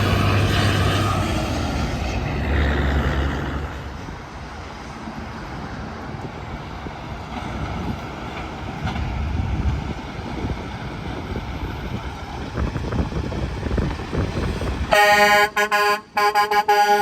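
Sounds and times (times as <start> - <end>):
traffic roar: 0.0 - 17.0
truck passing close: 0.0 - 17.0.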